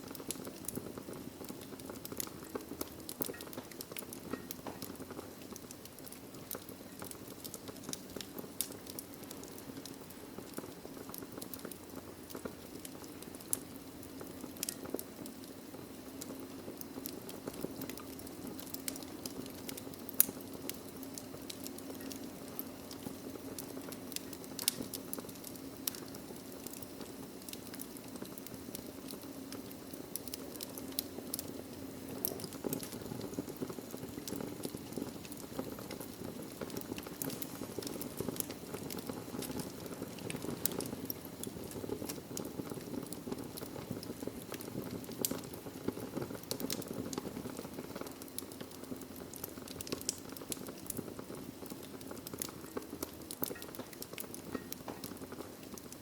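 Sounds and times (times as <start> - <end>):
burning logs crackling and popping: 0.0 - 56.0
fire flames rumbling: 0.0 - 56.0.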